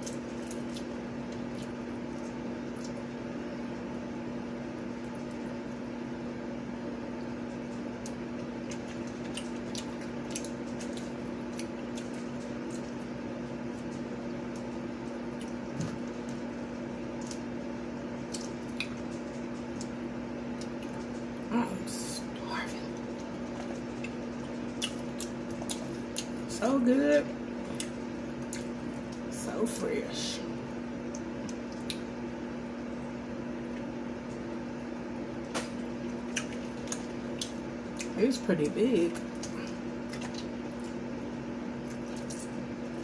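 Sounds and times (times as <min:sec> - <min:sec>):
electric fan humming: 0:00.0 - 0:43.0.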